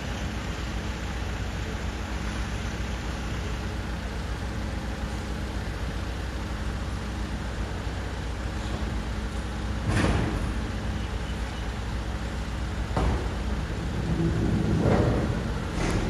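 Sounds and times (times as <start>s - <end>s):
garbage truck diesel engine: 0.0s - 16.0s.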